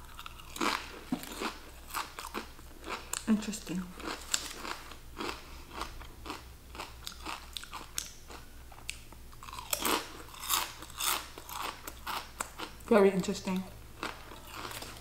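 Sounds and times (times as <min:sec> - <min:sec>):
potato chips crunching: 0:00.0 - 0:03.3, 0:04.0 - 0:12.8, 0:14.0 - 0:15.0.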